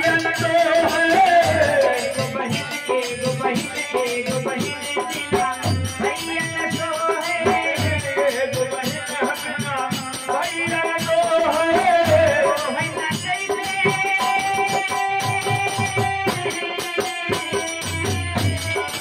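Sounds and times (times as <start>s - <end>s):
man singing: 0.0s - 19.0s
rattling percussion: 0.0s - 19.0s.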